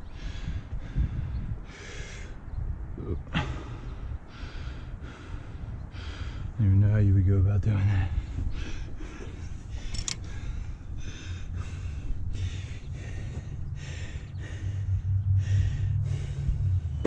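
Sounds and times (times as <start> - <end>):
man breathing hard: 0.0 - 6.6, 7.8 - 17.0
steady low hum: 0.0 - 17.0.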